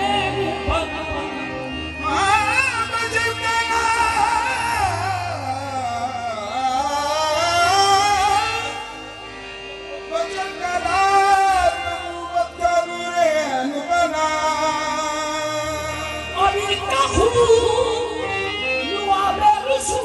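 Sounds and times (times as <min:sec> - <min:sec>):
man singing wavering vocal lines: 0:00.0 - 0:20.0
sustained harmonium tones: 0:00.0 - 0:20.0.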